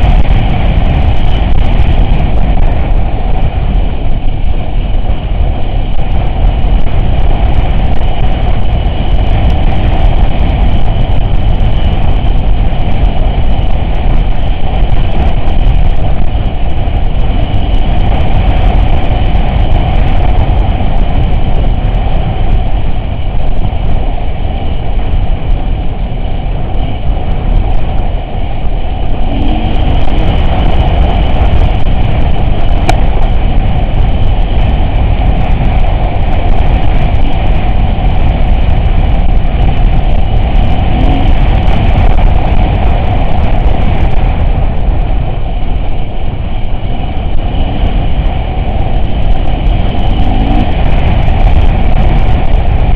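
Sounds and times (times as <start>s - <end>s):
off-road vehicle engine: 0.0s - 52.9s.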